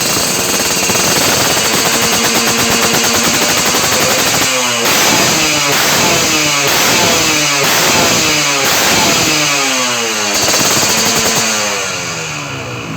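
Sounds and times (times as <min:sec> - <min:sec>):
two-stroke engine blipping: 0:00.0 - 0:12.9.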